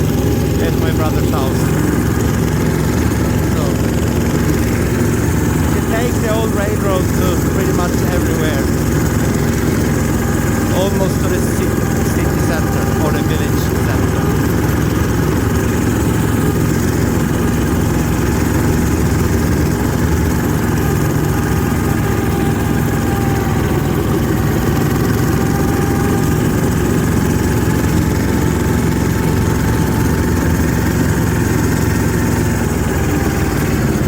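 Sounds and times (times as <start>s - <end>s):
snowmobile diesel engine running: 0.0s - 34.0s.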